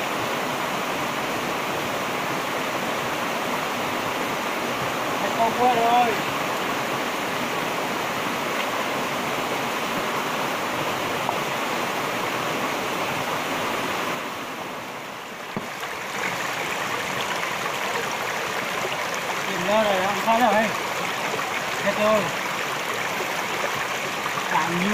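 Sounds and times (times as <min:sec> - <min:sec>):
rocky stream rushing: 0:00.0 - 0:24.9.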